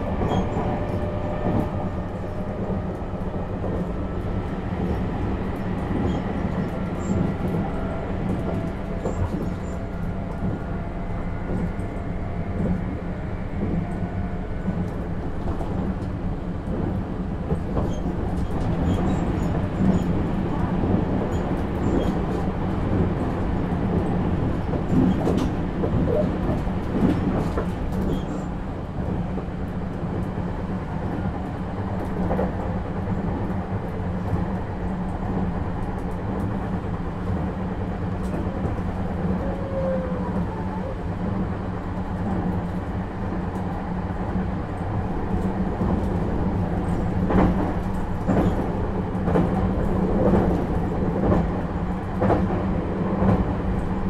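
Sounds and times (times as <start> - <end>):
train rumbling inside carriage: 0.0 - 54.0.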